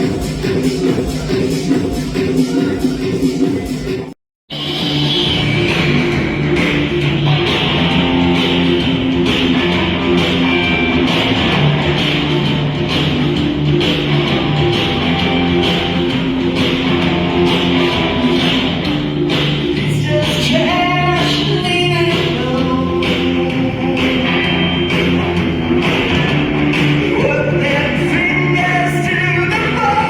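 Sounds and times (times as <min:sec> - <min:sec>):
guitar-led instrumental music: 0:04.6 - 0:30.0.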